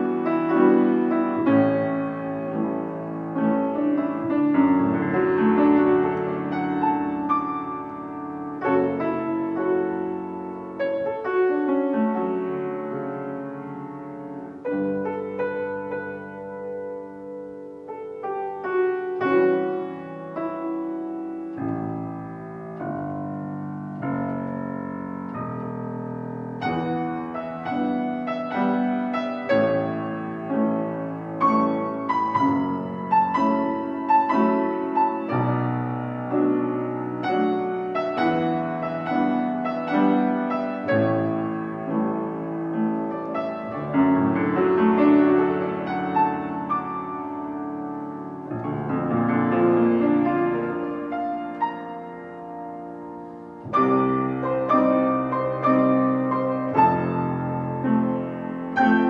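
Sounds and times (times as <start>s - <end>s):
solo piano piece: 0.0s - 59.0s.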